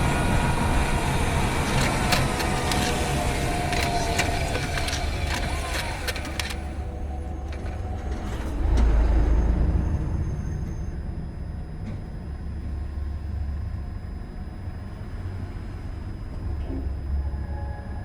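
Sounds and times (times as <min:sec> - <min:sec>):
car drivetrain and road rumble: 0:00.0 - 0:17.0.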